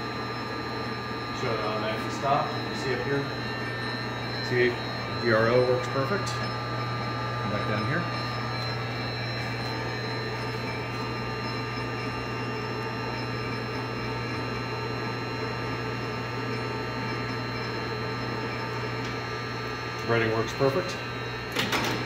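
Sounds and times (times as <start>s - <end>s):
lathe running: 0.0s - 22.0s.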